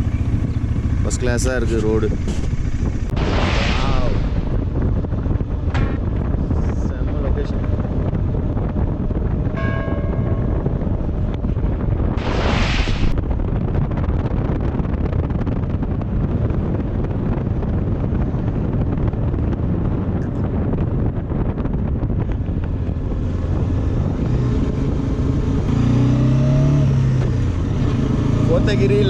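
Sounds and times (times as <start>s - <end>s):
motorcycle engine drone: 0.0s - 29.0s
wind rushing over microphone: 0.0s - 29.0s.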